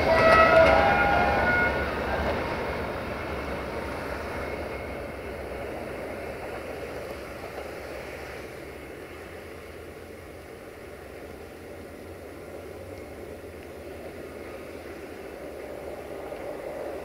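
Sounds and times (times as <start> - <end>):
passenger train rumble: 0.0 - 17.0.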